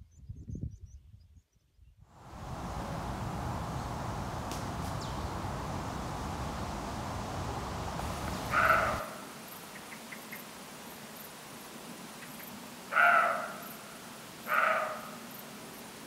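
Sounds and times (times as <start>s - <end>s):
outdoor nature background noise: 0.0s - 16.0s.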